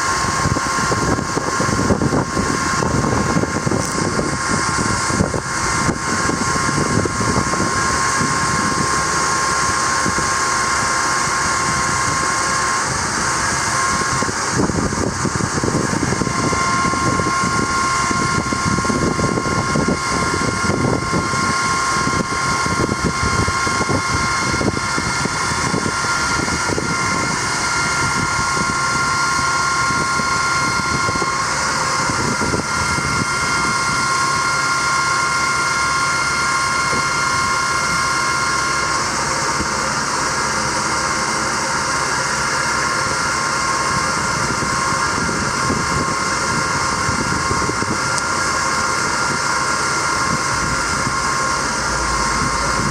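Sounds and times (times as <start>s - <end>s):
diesel engine running: 0.0s - 52.9s
hydraulic pump whine: 0.0s - 52.9s.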